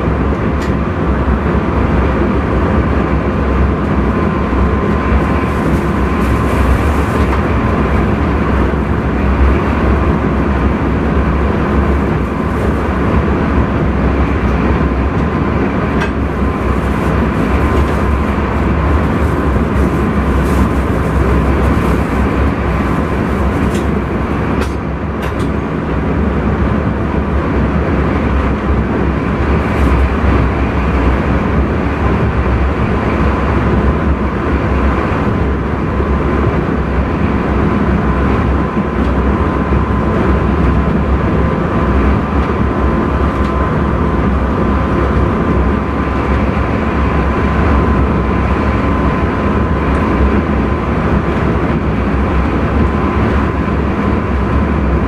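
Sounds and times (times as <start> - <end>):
train rumble of motors and wheels: 0.0 - 55.0.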